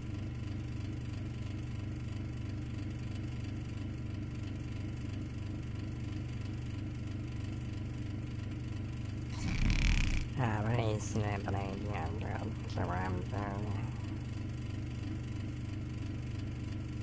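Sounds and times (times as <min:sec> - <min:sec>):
engine drone with pulsing rumble: 0:02.4 - 0:17.0.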